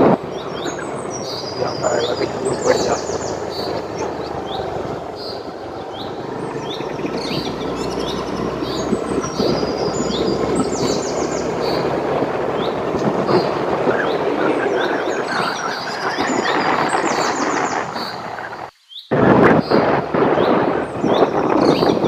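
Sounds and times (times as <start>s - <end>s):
birds chirping: 0.0s - 22.0s
steady rushing noise: 0.0s - 22.0s.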